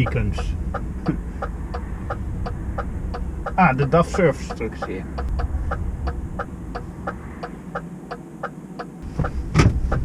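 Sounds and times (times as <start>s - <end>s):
low rumble: 0.0s - 8.1s
hazard light indicator ticking: 0.0s - 10.0s.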